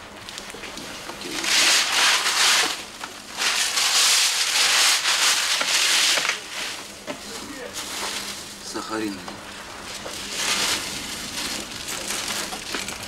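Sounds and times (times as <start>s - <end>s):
plastic bags rustling: 0.3s - 13.0s.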